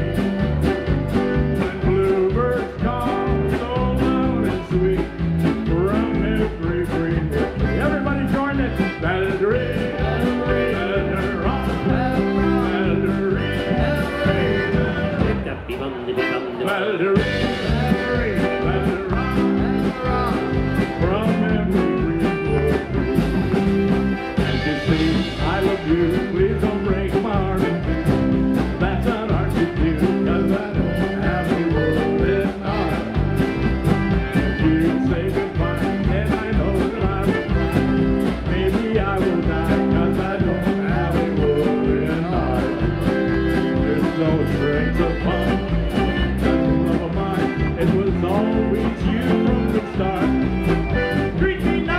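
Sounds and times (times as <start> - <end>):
man singing: 0.0 - 33.7, 34.3 - 51.9
accordion: 0.0 - 51.9
band playing steady beat: 0.0 - 51.9.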